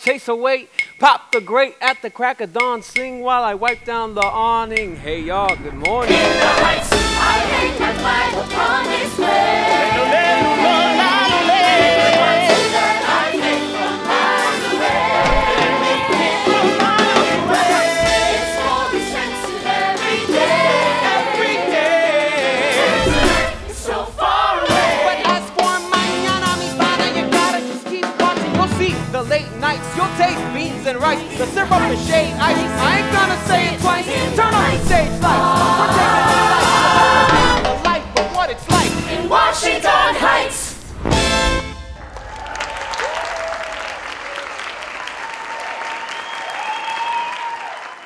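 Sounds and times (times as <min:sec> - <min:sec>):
cast singing with band: 0:00.8 - 0:29.0, 0:29.7 - 0:41.0.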